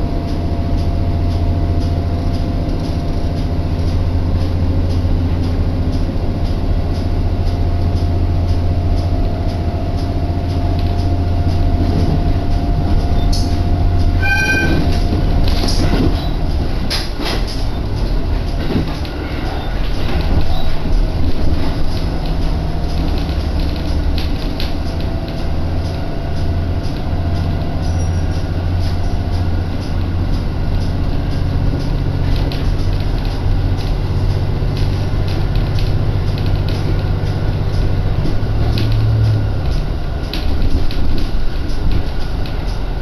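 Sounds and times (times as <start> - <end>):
train running drone: 0.0 - 43.0
wheels clicking over rail joints: 0.0 - 43.0.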